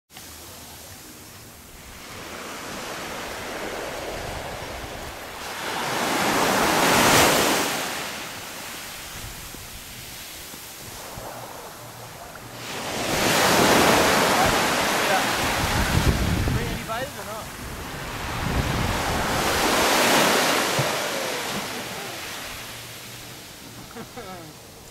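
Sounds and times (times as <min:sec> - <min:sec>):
small waves washing on beach: 0:00.2 - 0:24.9.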